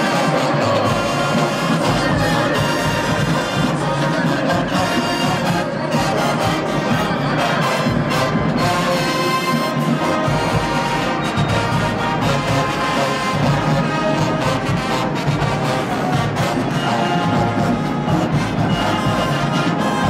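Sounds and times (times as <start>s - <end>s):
brass section playing: 0.0s - 20.0s
drumline: 0.0s - 20.0s.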